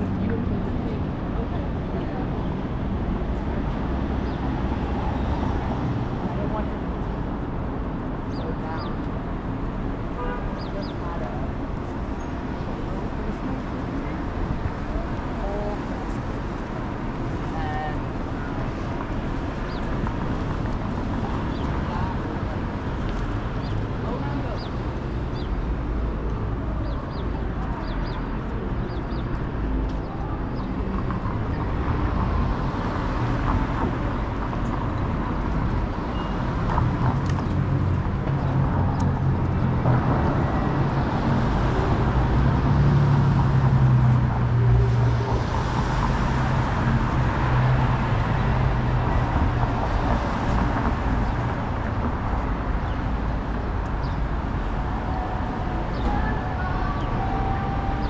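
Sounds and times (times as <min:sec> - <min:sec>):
hum of passing cars: 0:00.0 - 0:58.0.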